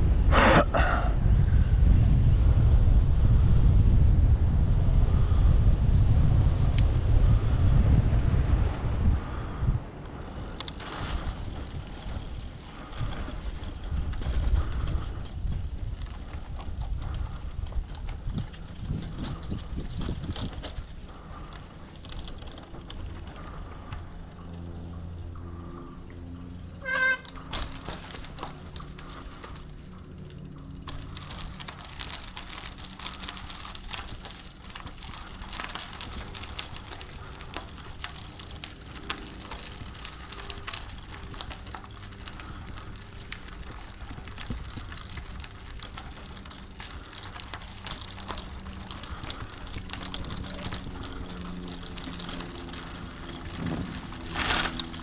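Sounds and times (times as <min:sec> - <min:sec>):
bicycle tyres on dirt trail: 0:00.0 - 0:55.0
bike rattling and clicking: 0:01.4 - 0:55.0.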